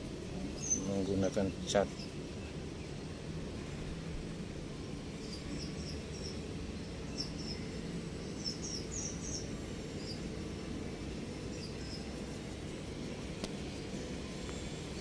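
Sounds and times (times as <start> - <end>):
steady low outdoor hum: 0.0 - 15.0
small birds chirping: 0.2 - 3.3, 4.8 - 15.0.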